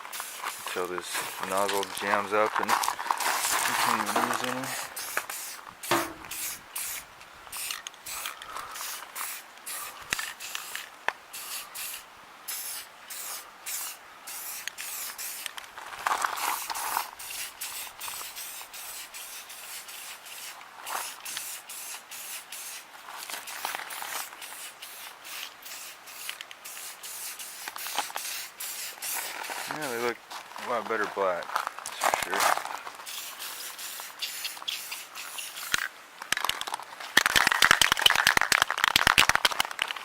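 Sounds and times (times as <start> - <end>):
spray paint can hissing: 0.0 - 2.1, 3.4 - 15.6, 16.3 - 30.1, 33.0 - 36.6, 37.2 - 39.7.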